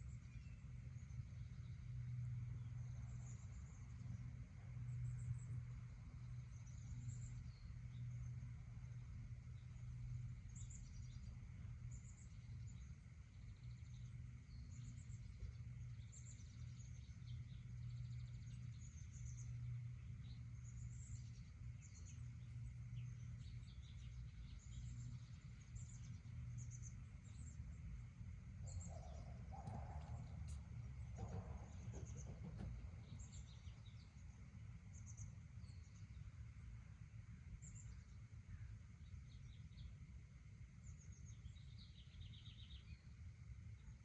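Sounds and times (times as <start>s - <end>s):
small birds chirping: 0.0s - 40.2s, 40.8s - 44.0s
steady low hum: 0.0s - 44.0s.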